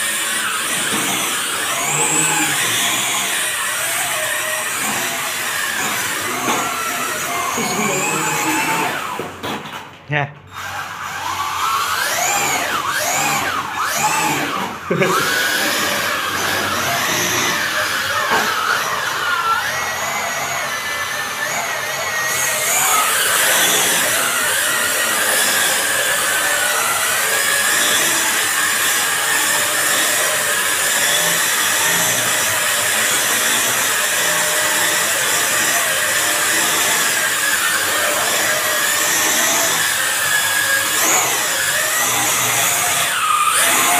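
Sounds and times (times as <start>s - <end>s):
drone motors revving with whine: 0.0s - 9.4s, 10.5s - 43.9s.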